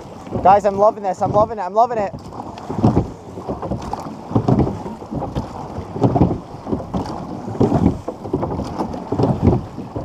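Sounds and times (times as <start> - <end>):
rowing stroke noise: 0.0 - 10.0
wind buffeting microphone: 0.0 - 10.0.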